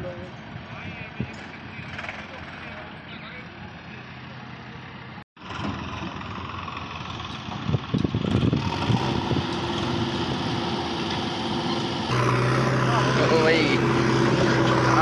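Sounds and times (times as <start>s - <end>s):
tractor engines running: 0.0s - 15.0s.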